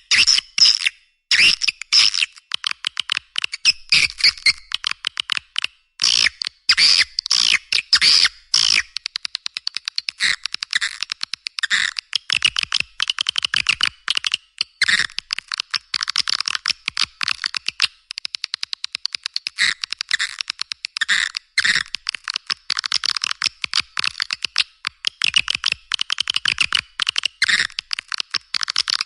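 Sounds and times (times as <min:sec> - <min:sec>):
swiftlet clicks and chirps: 0:00.1 - 0:29.0.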